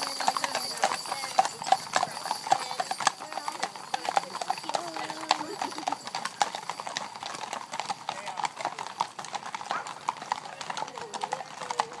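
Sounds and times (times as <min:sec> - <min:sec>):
horse hooves clip-clopping on road: 0:00.0 - 0:12.0.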